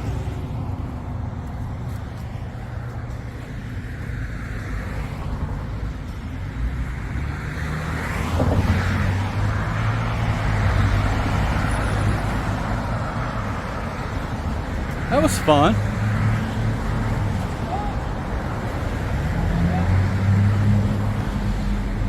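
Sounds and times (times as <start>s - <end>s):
road traffic rumbling: 0.0s - 22.0s.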